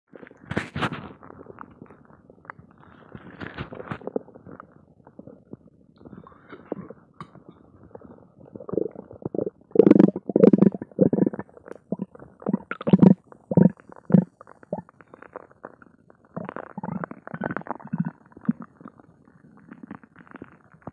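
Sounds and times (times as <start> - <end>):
stomach growling and gurgling: 0.1 - 20.9.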